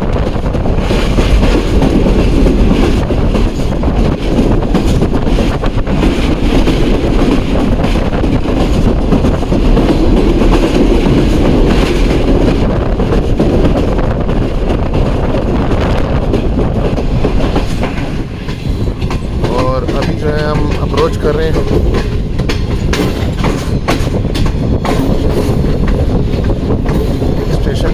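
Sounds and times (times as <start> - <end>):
train wheels clattering over rails: 0.0 - 27.9.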